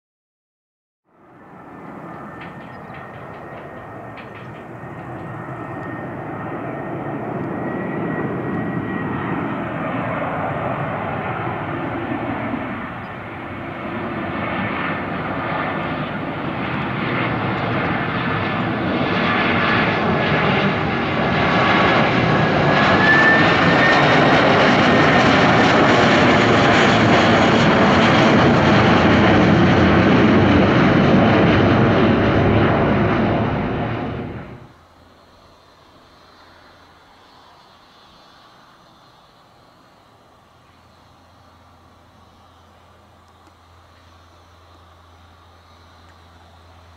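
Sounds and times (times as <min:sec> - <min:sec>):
jet airliner flying over: 0:01.1 - 0:46.9.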